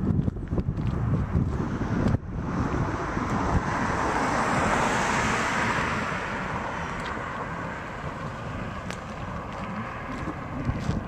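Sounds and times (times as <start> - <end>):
wind buffeting microphone: 0.0 - 11.0
car driving past: 1.4 - 11.0.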